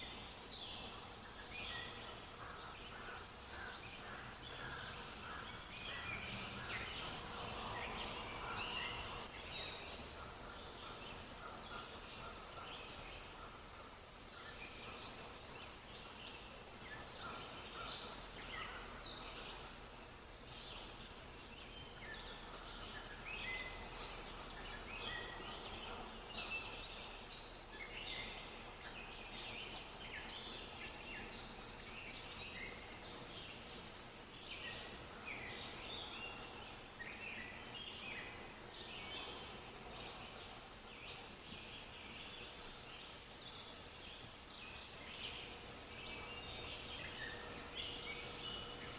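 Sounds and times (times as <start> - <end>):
faint steady background hum: 0.0 - 48.9
small birds chirping: 0.0 - 48.9.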